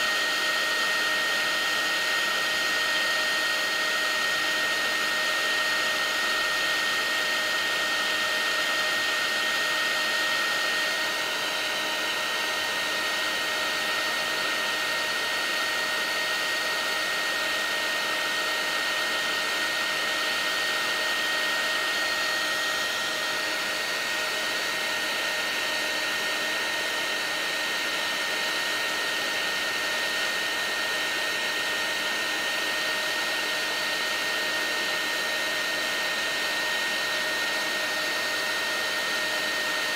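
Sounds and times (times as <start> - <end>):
heat gun blowing with whine: 0.0 - 39.9.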